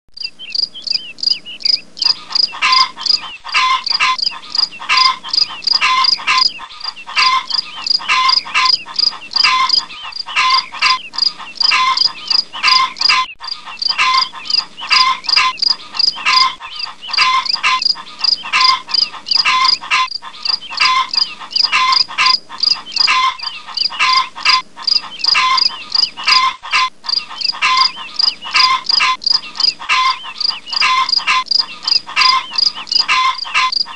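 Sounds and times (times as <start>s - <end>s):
frogs calling: 0.2s - 33.9s
insects calling: 0.2s - 33.9s.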